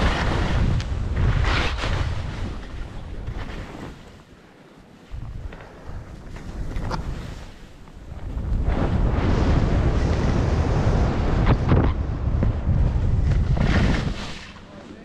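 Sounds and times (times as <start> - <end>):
wind rushing over microphone: 0.0 - 4.0, 5.1 - 14.8
skis scraping through snow: 0.0 - 11.7, 12.3 - 15.0.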